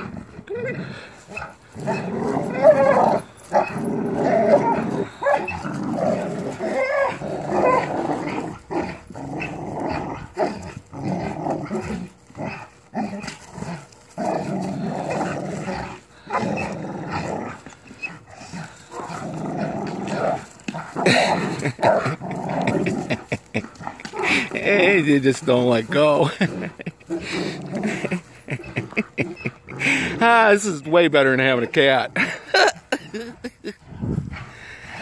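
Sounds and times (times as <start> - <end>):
dogs growling in play: 0.0 - 30.5, 31.6 - 35.0.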